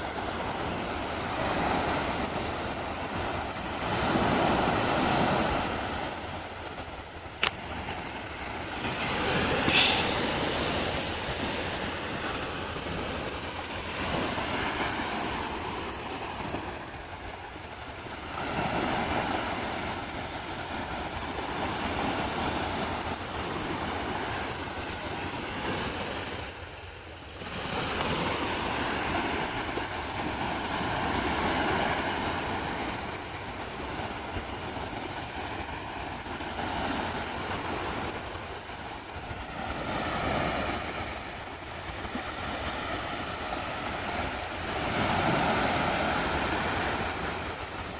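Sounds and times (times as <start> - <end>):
waves washing on sandy beach: 0.0 - 47.9
wind on microphone: 0.0 - 47.9.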